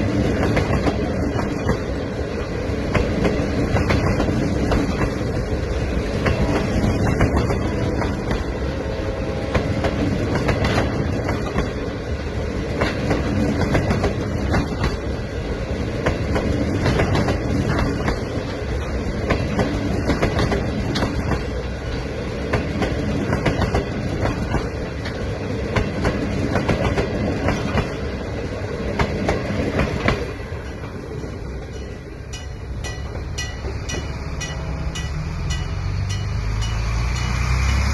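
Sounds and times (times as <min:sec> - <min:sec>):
passenger train rumbling past: 0:00.0 - 0:37.9
wheels clacking over rail joints: 0:00.0 - 0:37.9.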